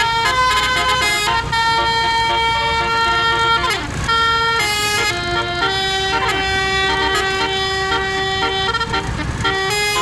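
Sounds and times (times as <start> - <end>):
bus horn playing a tune: 0.0 - 10.0.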